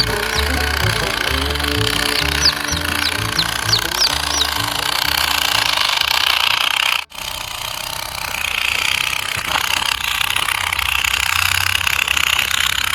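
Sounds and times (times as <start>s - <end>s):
machine running with fast rattle: 0.0s - 12.9s.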